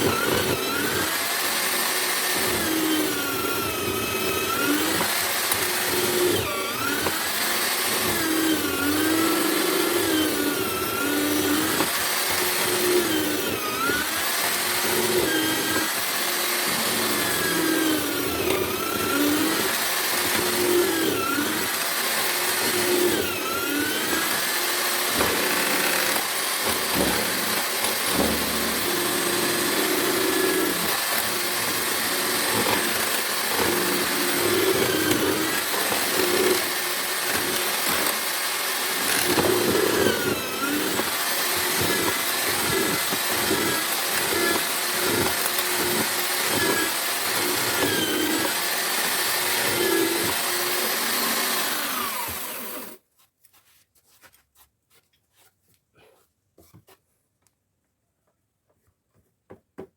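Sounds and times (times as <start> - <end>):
electric drill motor running: 0.0 - 53.0.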